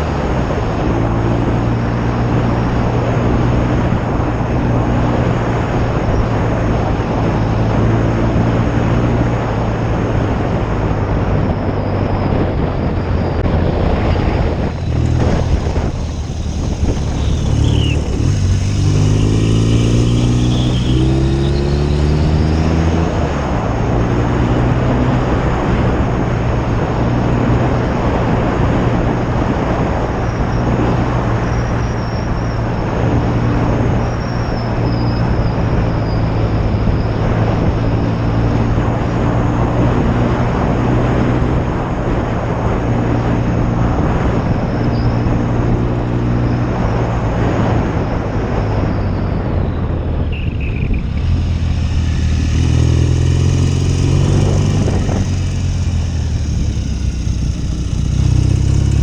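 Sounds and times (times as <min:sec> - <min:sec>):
loud wind rush: 0:00.0 - 0:59.0
motorcycle engine running: 0:00.0 - 0:59.0.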